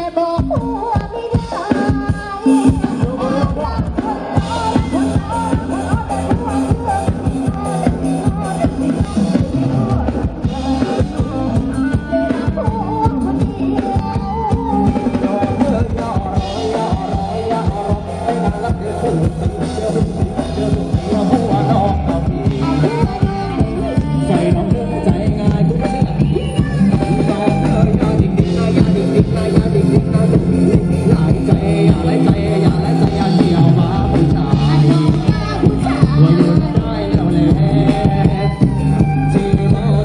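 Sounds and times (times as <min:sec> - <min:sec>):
drums with heavy bass beat: 0:00.0 - 0:40.0
keyboard: 0:00.0 - 0:40.0
person singing into microphone: 0:00.0 - 0:40.0.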